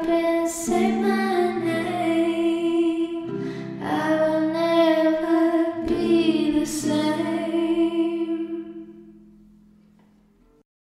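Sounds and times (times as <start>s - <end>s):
acoustic accompaniment: 0.0s - 10.6s.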